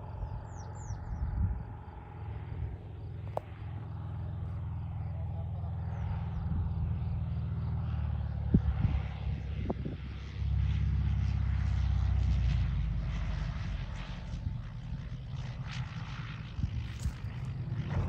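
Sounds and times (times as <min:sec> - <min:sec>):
aircraft engine and propeller drone: 0:00.0 - 0:18.0.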